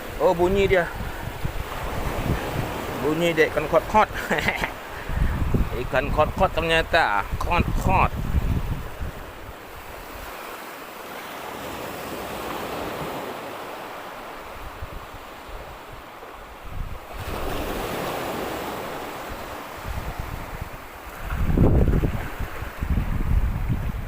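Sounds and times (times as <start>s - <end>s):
wind buffeting the microphone: 0.0s - 10.6s, 11.6s - 24.0s
small waves washing onto shore: 0.0s - 24.0s.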